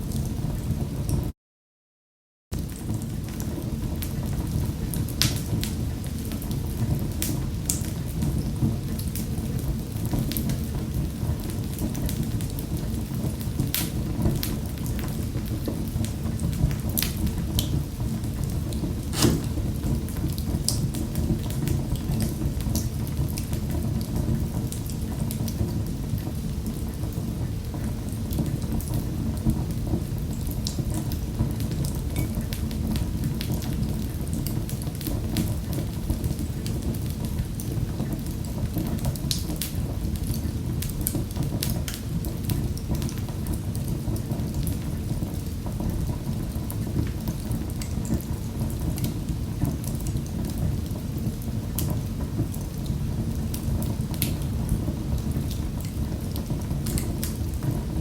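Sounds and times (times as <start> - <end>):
wood fire crackling: 2.6 - 58.0.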